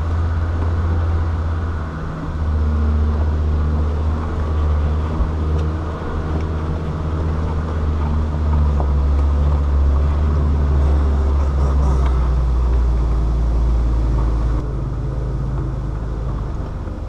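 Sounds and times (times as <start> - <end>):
vehicle engine droning under load: 0.0 - 17.0.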